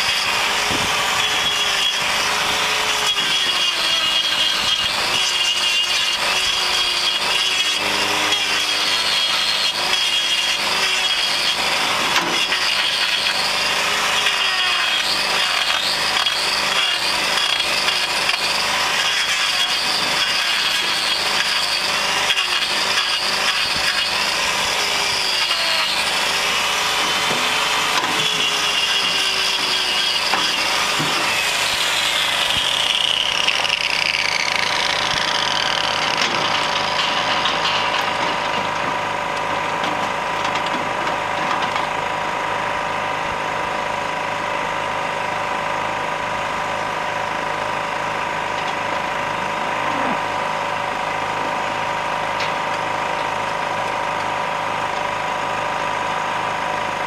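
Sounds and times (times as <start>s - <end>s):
angle grinder grinding hoof: 0.0s - 57.0s.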